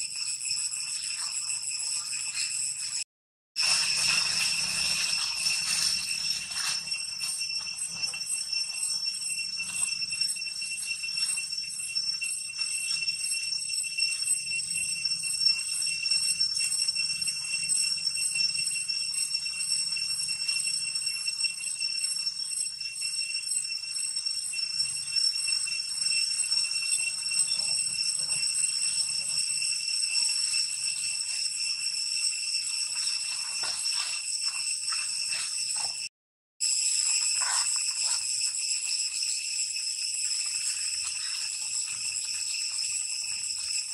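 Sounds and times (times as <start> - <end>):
insects droning: 3.6 - 36.0, 36.6 - 43.9.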